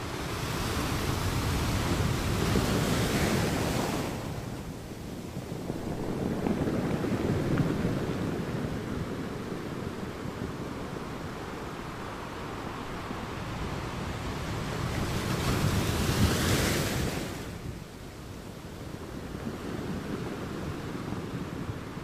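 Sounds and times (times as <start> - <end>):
ocean waves breaking: 0.0 - 17.8
surf washing: 0.0 - 22.0.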